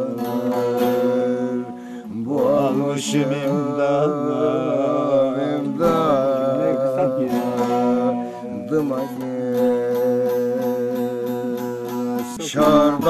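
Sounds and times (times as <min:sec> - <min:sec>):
person singing folk song: 0:00.0 - 0:13.0
strummed lute: 0:00.0 - 0:13.0.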